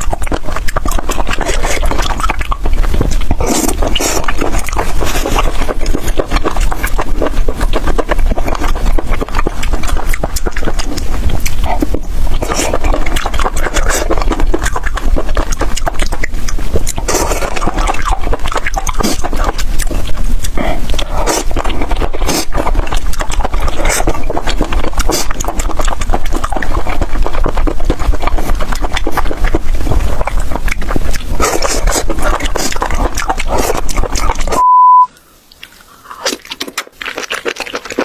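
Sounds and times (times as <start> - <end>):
person chewing and slurping: 0.0 - 34.7, 35.4 - 38.0.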